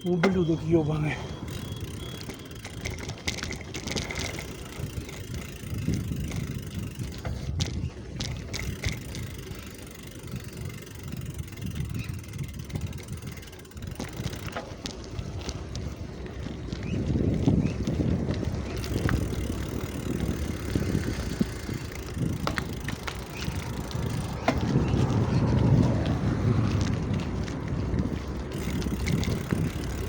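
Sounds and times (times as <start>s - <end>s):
bicycle tyres on road: 0.0s - 30.0s
wind on microphone: 2.7s - 14.6s, 15.3s - 30.0s.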